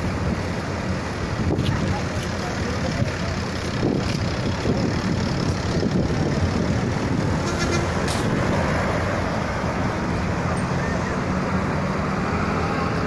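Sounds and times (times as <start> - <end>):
bus engine running: 0.0 - 13.0
traffic noise: 0.0 - 13.0.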